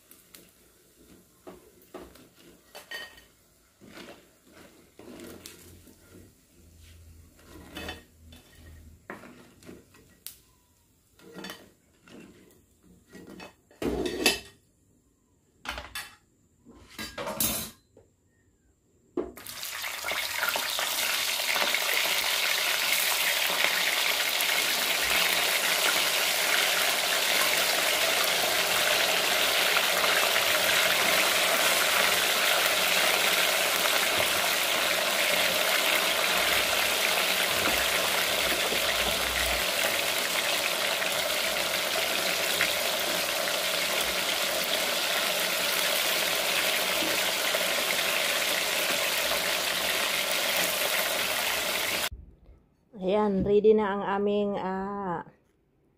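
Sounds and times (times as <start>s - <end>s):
fries sizzling in hot oil: 0.0s - 14.5s, 19.4s - 52.1s.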